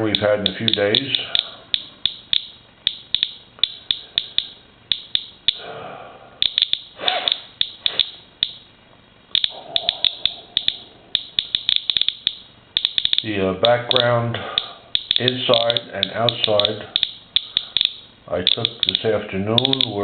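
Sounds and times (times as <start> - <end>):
geiger counter clicking: 0.0 - 5.6, 6.4 - 8.6, 9.3 - 20.0.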